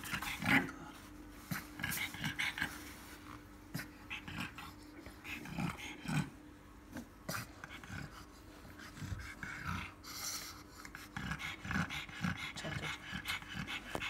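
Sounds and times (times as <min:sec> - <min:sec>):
dog panting: 0:01.5 - 0:06.3, 0:07.2 - 0:14.0.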